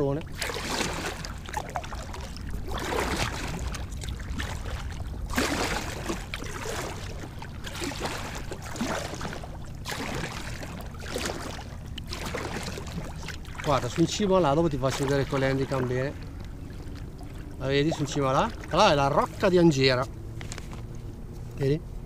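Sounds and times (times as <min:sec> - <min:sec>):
paddle splashing water: 0:00.0 - 0:21.2
low steady rumble: 0:00.0 - 0:22.0.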